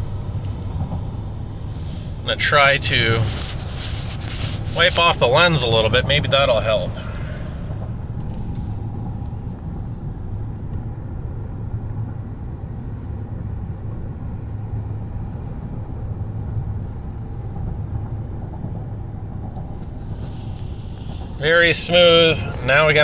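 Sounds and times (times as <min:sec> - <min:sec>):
faint steady hum: 0:00.0 - 0:23.0
road and drivetrain rumble: 0:00.0 - 0:23.0.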